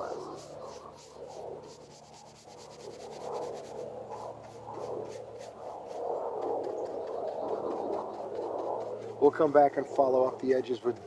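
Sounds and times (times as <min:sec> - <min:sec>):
paintbrush strokes on wood: 0:00.0 - 0:11.0.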